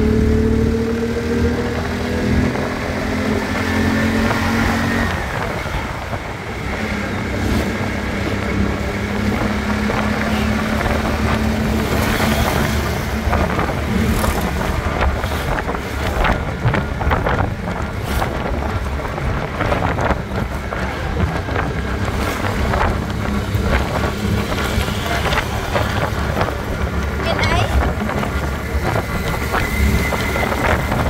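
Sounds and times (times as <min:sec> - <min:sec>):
road noise: 0:00.0 - 0:31.0
vehicle engine hum: 0:00.0 - 0:31.0
wind buffeting microphone: 0:00.2 - 0:31.0.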